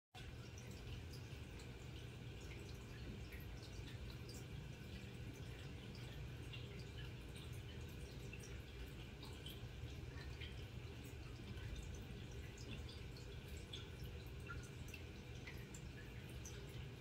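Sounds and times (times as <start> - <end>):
aquarium water bubbling: 0.2 - 17.0
steady low hum: 0.2 - 17.0.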